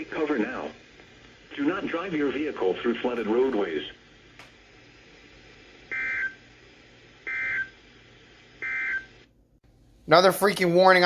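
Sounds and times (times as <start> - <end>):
faint radio hiss: 0.0 - 11.0.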